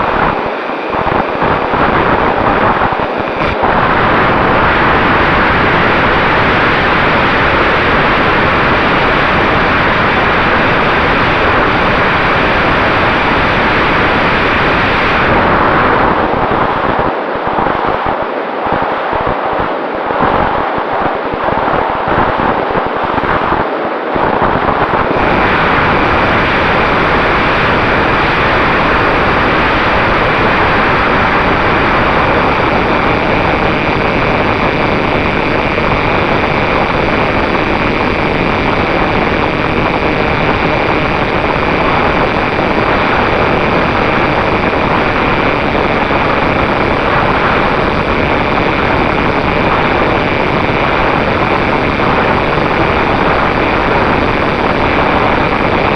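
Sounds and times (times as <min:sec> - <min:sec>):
wind noise: 0:00.0 - 0:55.9.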